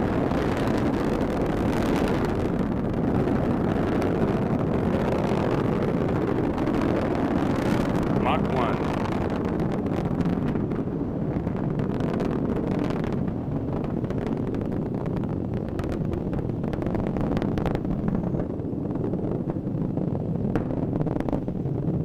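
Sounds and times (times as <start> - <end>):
rocket engine rumble with crackling: 0.0 - 22.0.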